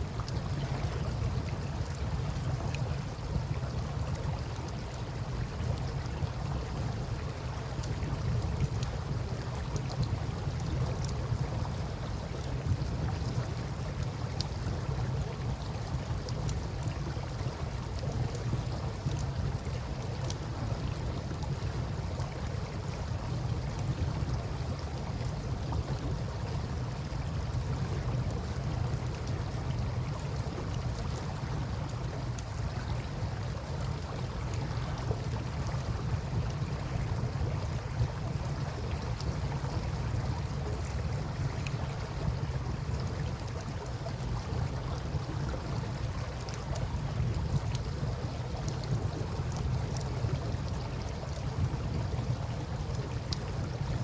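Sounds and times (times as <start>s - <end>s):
river water rumble: 0.0s - 54.0s
campfire crackling: 3.5s - 54.0s.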